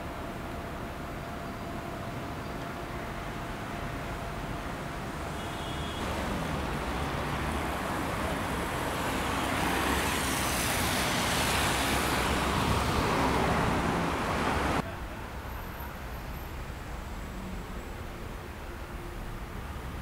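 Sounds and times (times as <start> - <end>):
vehicle engines rumbling: 0.0 - 20.0
tyres on wet road: 3.8 - 20.0.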